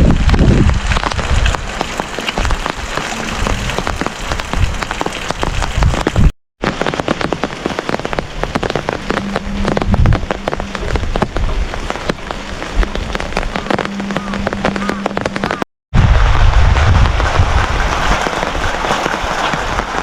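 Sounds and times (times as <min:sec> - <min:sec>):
rain pattering on hard surface: 0:00.0 - 0:20.0.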